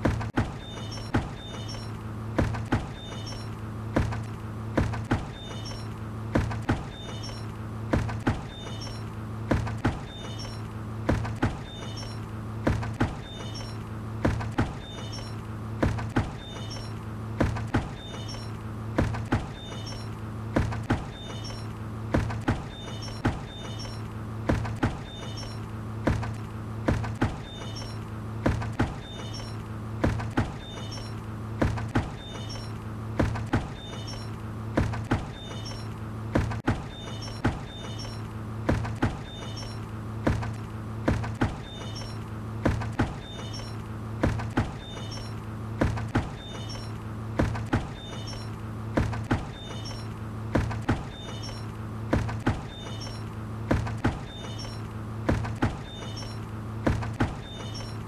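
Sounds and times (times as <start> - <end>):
steady low hum: 0.0 - 58.0
short high squeaks: 0.6 - 2.0, 2.8 - 3.6, 5.2 - 6.0, 6.6 - 26.4, 27.0 - 32.8, 33.4 - 36.0, 36.8 - 40.6, 41.4 - 47.0, 47.6 - 50.2, 50.8 - 58.0.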